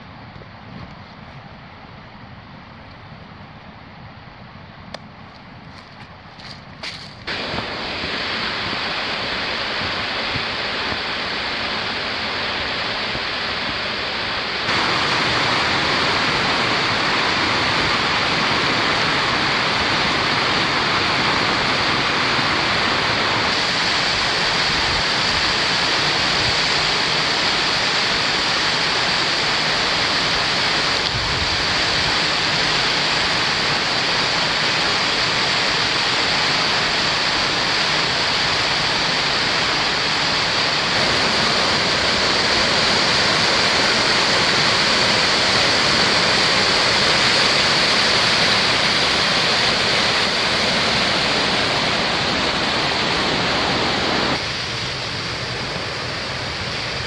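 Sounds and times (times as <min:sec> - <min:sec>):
waterfall rushing into a pool: 0:06.9 - 0:57.0.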